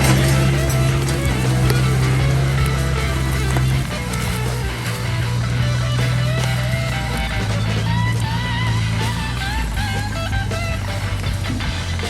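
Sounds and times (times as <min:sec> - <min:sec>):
guitar-led background music: 0:00.0 - 0:12.0.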